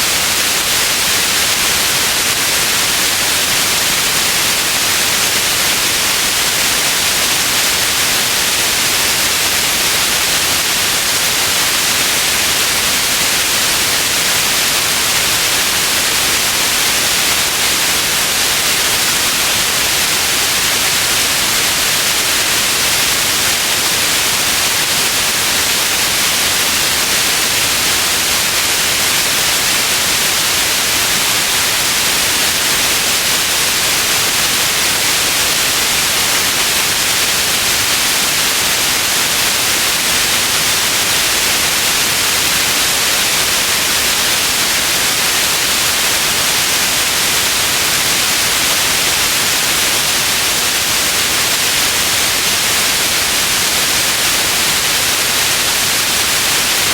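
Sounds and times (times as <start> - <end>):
steady white noise hiss: 0.0 - 56.9.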